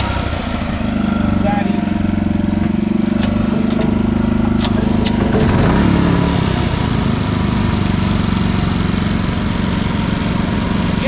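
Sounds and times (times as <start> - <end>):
generators running: 0.0 - 11.0.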